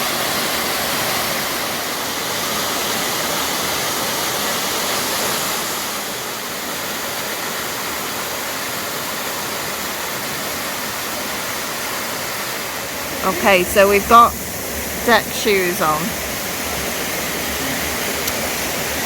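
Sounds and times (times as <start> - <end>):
waterfall pouring into rock pool: 0.0 - 13.2, 16.0 - 19.0.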